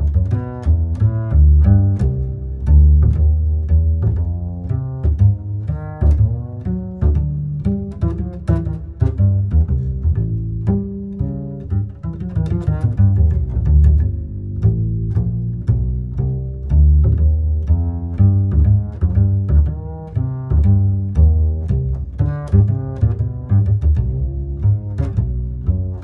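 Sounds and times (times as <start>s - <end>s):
low strings bowed and plucked: 0.0s - 26.0s.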